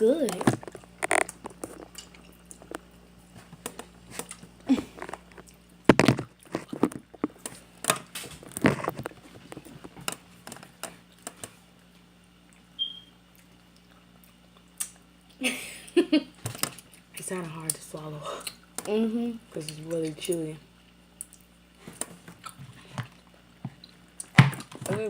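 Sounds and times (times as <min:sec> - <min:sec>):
wet sticky chewing: 0:00.2 - 0:15.4, 0:19.6 - 0:24.8.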